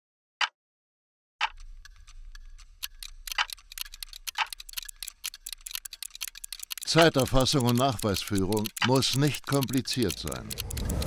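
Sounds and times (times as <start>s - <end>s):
clock ticking: 1.4s - 11.0s.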